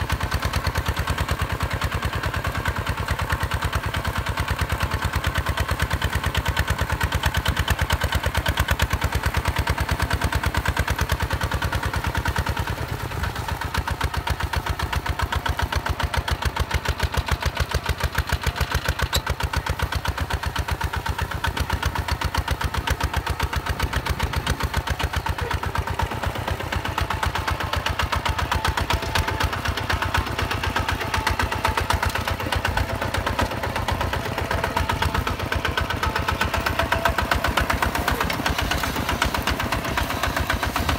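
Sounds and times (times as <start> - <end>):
diesel tractor engine chugging: 0.0 - 40.9.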